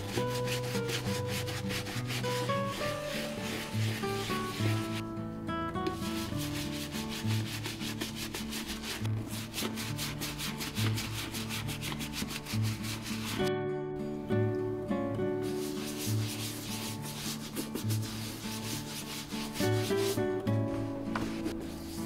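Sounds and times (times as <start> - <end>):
brush scrubbing leather boot: 0.0 - 5.0, 5.9 - 13.5, 15.4 - 22.0
guitar music: 0.0 - 22.0.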